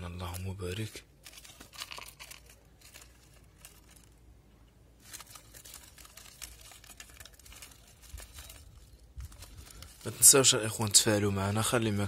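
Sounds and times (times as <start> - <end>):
faint rustling and crinkling: 0.0 - 12.0.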